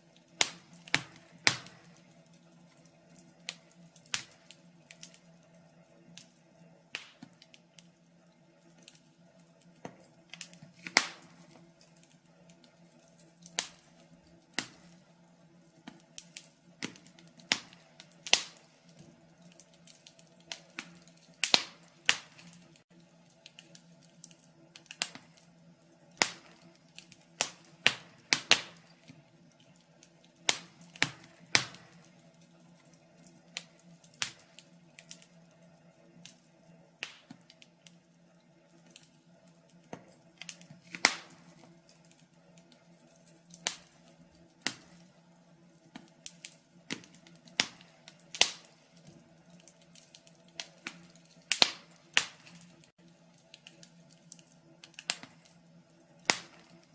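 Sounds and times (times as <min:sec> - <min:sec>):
faint steady hum: 0:00.0 - 0:56.9
wood fire crackling: 0:00.0 - 0:56.9.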